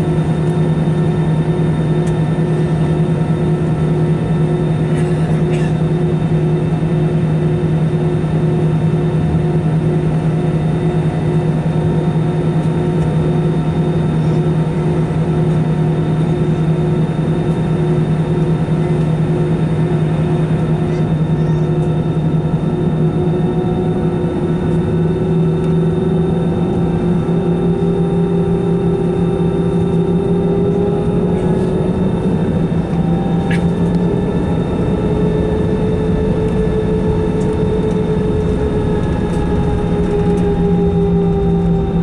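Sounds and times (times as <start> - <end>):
jet engines drone in cabin: 0.0 - 42.0.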